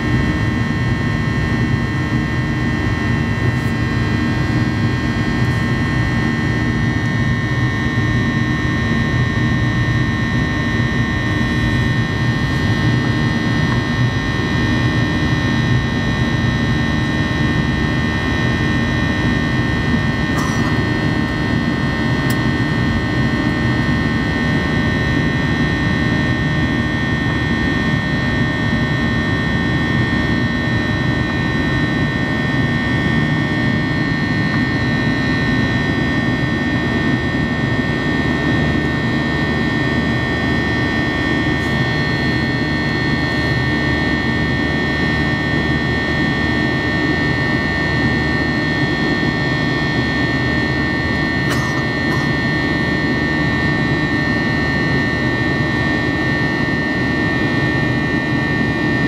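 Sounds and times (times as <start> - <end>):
jet engines rumbling and whining: 0.0 - 59.0.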